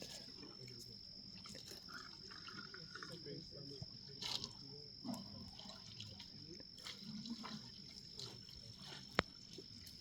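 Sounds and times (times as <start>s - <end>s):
water splashing and trickling: 1.3s - 3.5s, 4.1s - 10.0s.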